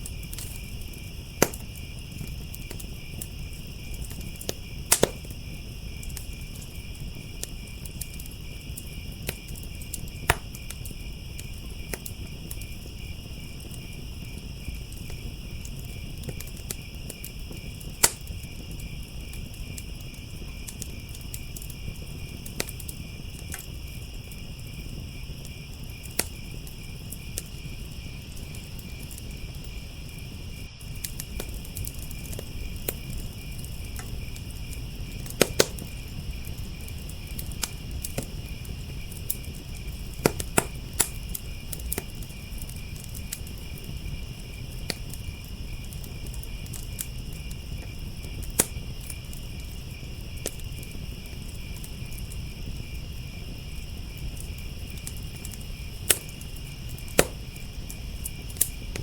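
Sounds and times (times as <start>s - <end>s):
crickets chirping: 0.0s - 59.0s
wood fire crackling and popping: 0.0s - 59.0s.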